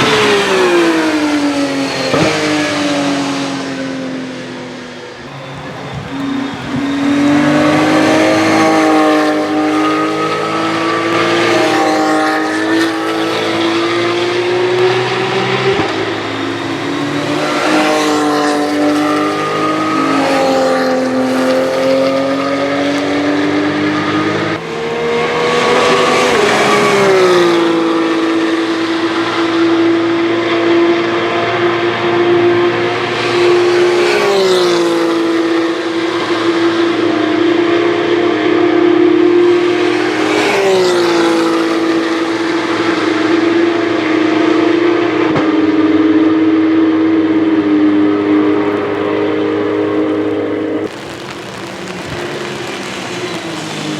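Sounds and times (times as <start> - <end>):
racing car engines at high revs: 0.0 - 53.9.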